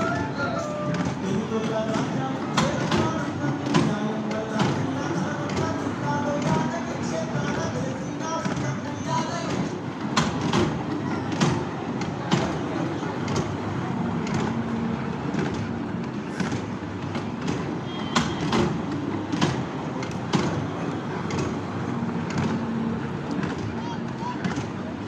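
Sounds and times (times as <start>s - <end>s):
train rumbling: 0.0s - 25.0s
train wheels clacking: 0.0s - 25.0s.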